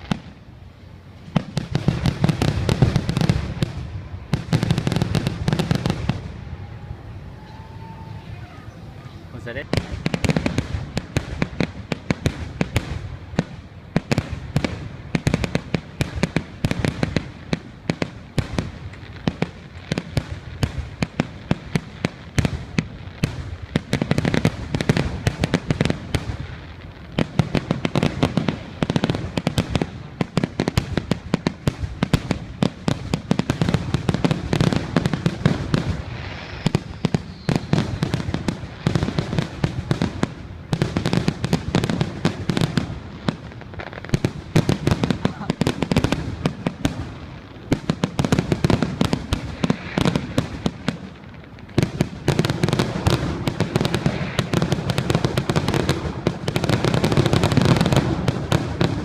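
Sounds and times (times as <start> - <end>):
fireworks exploding: 0.0 - 59.0.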